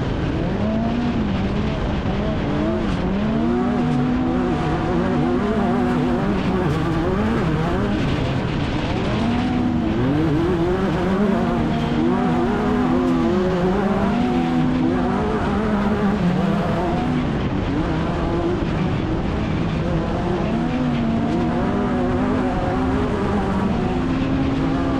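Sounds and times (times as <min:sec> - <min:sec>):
off-road vehicle engine revving: 0:00.0 - 0:24.9.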